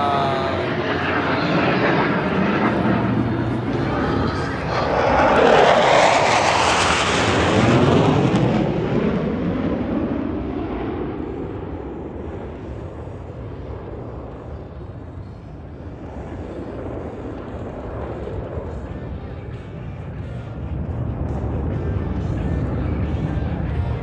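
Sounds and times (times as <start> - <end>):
jet roar: 0.0 - 24.0.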